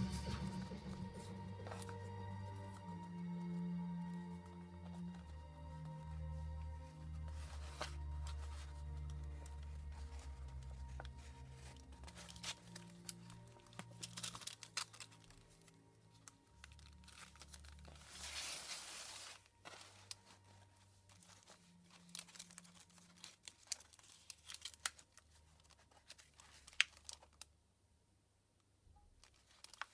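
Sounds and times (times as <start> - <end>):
paper pages rustling: 0.0 - 27.5, 29.2 - 29.9
soft background music: 0.0 - 27.5.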